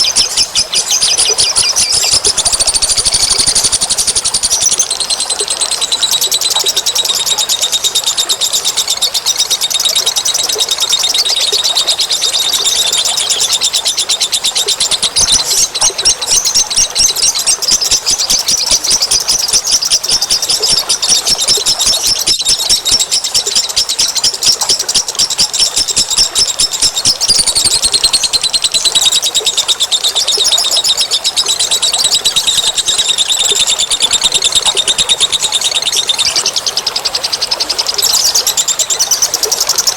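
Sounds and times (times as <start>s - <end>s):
birds chattering and trilling: 0.0s - 39.9s.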